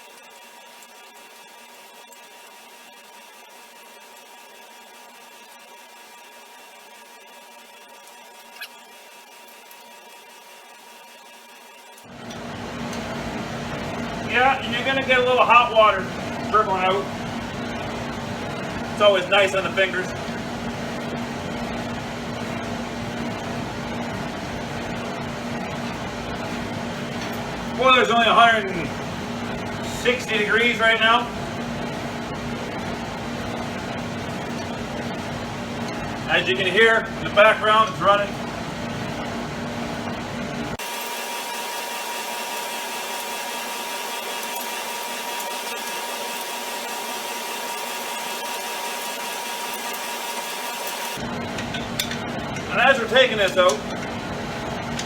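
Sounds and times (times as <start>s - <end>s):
heating boiler humming: 0.0s - 55.0s.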